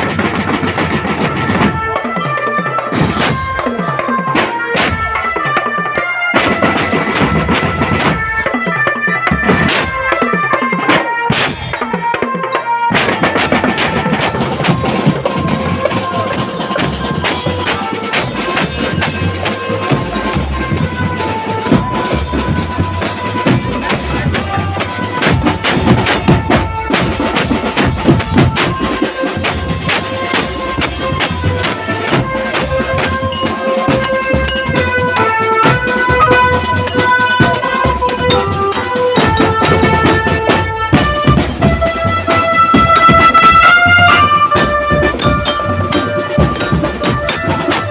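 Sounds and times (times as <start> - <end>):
marching drum band playing: 0.0 - 47.9.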